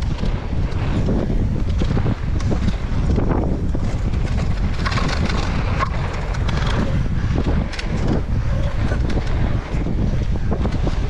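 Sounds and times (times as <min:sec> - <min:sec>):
bike clicks and rattles: 0:00.0 - 0:11.0
tyres rolling over dirt: 0:00.0 - 0:11.0
wind on microphone: 0:00.0 - 0:11.0.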